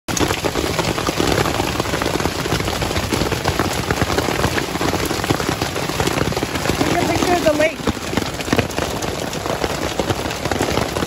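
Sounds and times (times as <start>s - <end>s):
hail and rain pelting ground: 0.1s - 11.0s.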